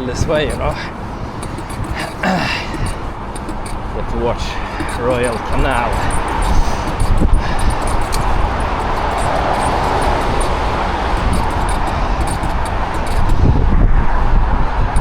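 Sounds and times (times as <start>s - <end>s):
e-bike tyres rolling: 0.0s - 15.0s
wind rumbling on microphone: 0.0s - 15.0s.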